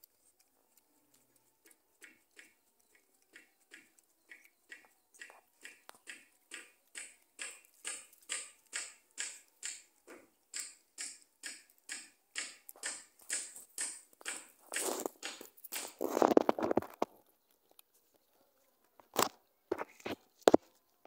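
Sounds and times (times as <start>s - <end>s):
monkey chewing dry maize: 0.0s - 20.9s.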